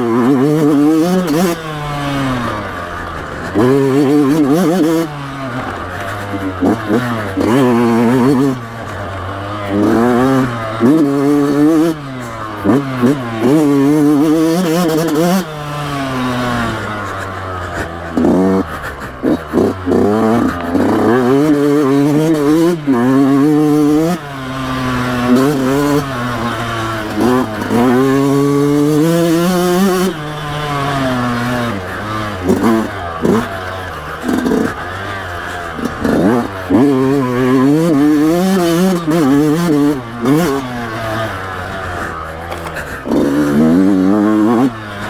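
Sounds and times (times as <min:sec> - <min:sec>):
two-stroke engine revving: 0:00.0 - 0:45.0.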